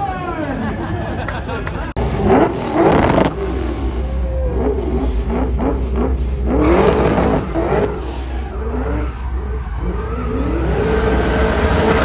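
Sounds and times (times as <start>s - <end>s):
low engine rumble: 0.0s - 12.0s
car engine revving: 2.0s - 12.0s.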